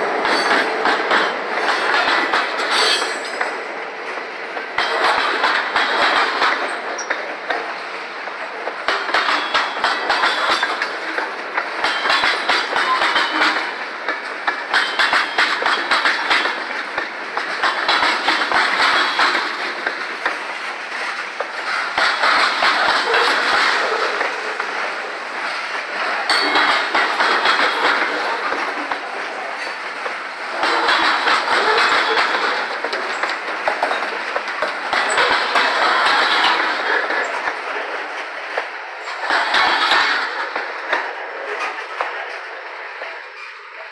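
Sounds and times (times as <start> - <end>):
freight train wheels rolling: 0.0 - 43.9
wheels clacking over rail joints: 0.0 - 43.9.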